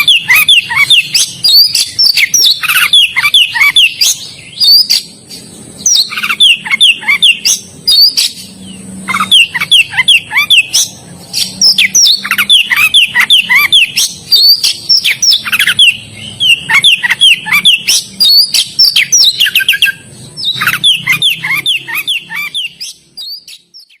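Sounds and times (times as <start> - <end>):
bird singing whistled notes: 0.0 - 24.0.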